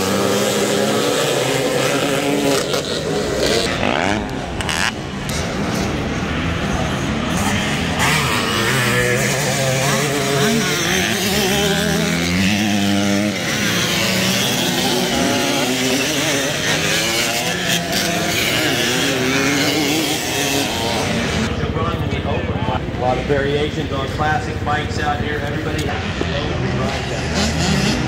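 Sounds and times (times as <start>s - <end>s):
motorcycles revving and accelerating: 0.0s - 28.0s.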